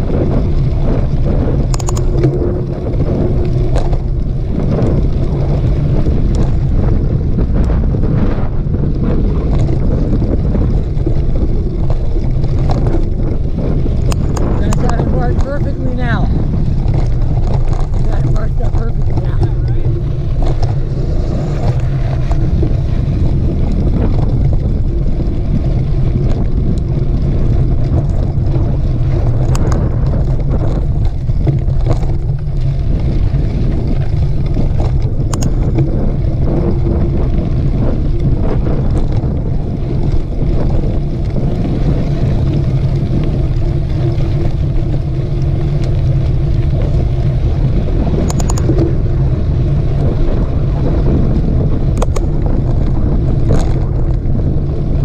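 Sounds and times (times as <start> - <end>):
bike clicks and rattles: 0.0 - 55.0
wind buffeting microphone: 0.0 - 55.0.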